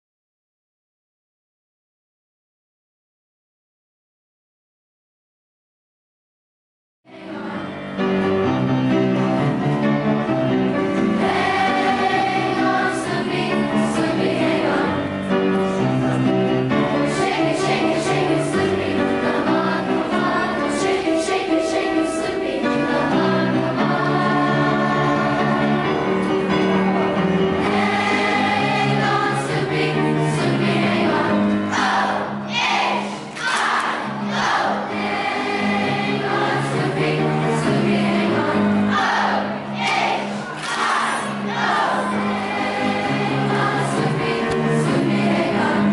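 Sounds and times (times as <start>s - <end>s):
children's choir singing: 7.1s - 45.9s
piano accompaniment: 7.1s - 45.9s.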